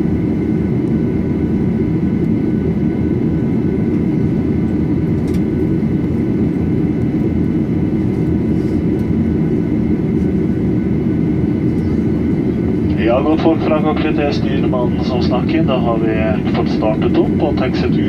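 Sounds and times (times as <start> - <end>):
jet engines idling: 0.0 - 18.0.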